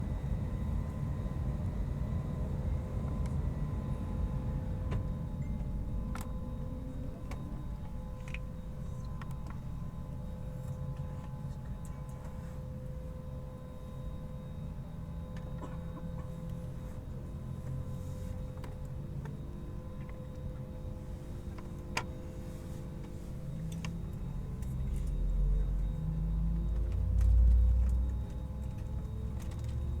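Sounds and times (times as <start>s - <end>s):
jet airliner rumble: 0.0s - 26.9s.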